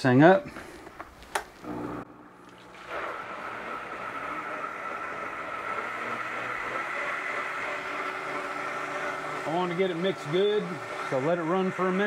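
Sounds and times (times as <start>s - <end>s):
blender motor churning liquid: 1.7s - 12.0s.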